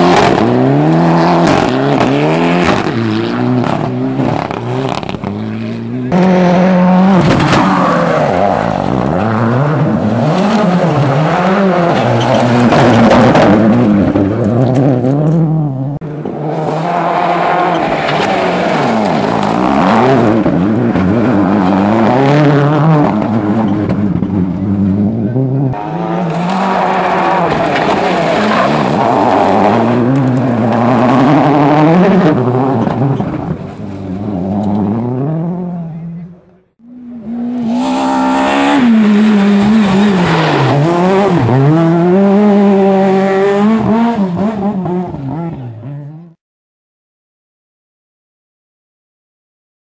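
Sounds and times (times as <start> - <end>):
rally car engines revving: 0.0 - 46.4.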